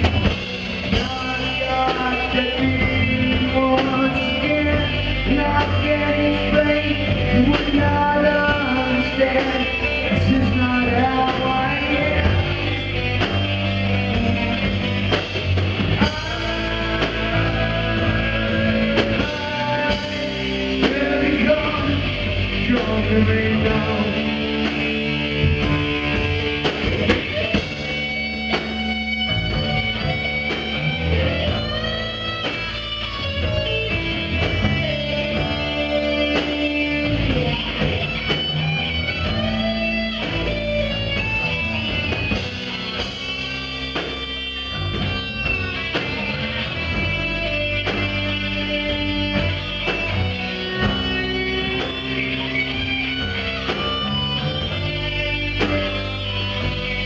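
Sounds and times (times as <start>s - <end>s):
lead guitar bending notes: 0.0s - 57.0s
live rock band playing: 0.0s - 57.0s.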